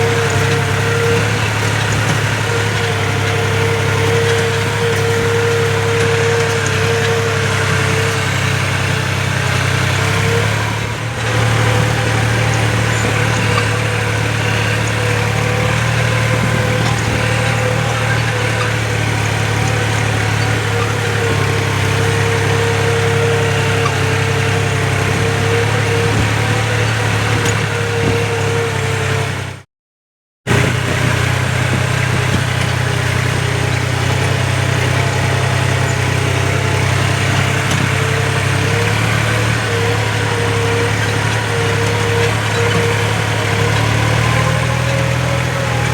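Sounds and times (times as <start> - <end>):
high engine whine: 0.0 - 29.5, 30.5 - 45.9
tractor diesel engine running: 0.0 - 29.6, 30.5 - 45.9.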